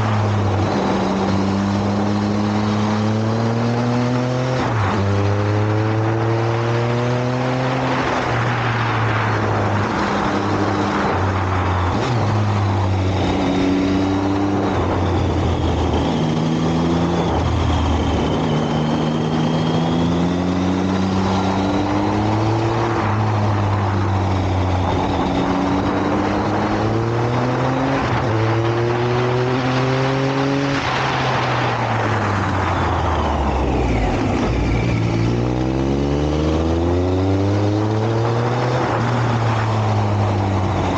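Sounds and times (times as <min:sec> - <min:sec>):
steady rushing noise: 0:00.0 - 0:03.2, 0:07.6 - 0:40.9
motorcycle engine revving: 0:00.0 - 0:40.9.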